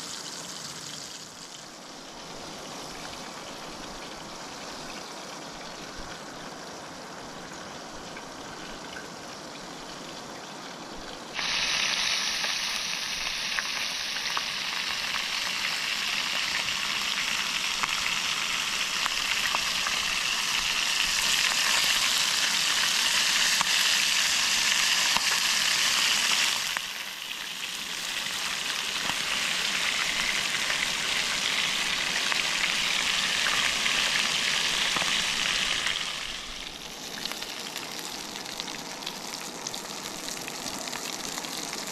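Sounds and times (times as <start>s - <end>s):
fish sizzling in hot oil: 0.0s - 5.1s, 11.3s - 41.9s.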